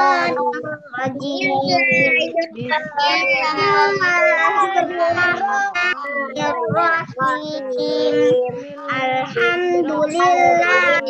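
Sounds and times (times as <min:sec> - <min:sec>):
children chanting a prayer: 0:00.0 - 0:11.0.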